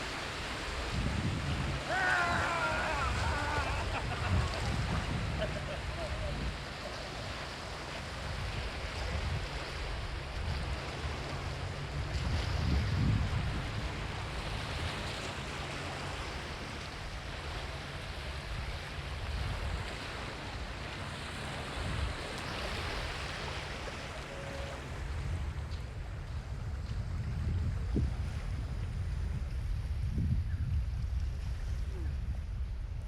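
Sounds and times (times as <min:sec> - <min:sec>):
surf washing onto beach: 0:00.0 - 0:30.1
wind rumbling on microphone: 0:00.0 - 0:33.0.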